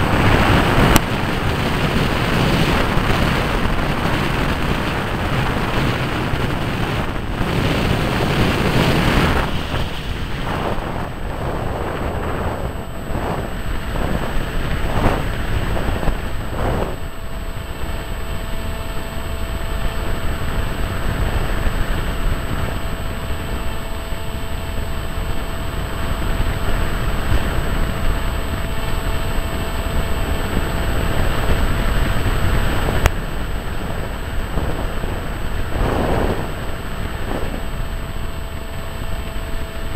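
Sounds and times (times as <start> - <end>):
electric motor and propeller drone: 0.0 - 39.9
wind rushing over microphone: 0.0 - 39.9.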